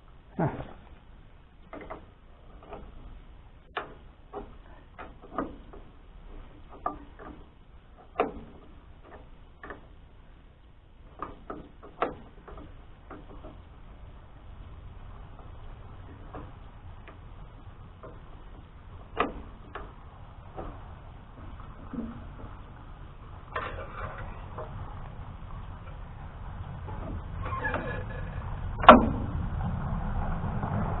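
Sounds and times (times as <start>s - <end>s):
hand tools clicking and knocking on metal: 1.6s - 10.1s, 11.0s - 14.0s, 15.4s - 29.3s.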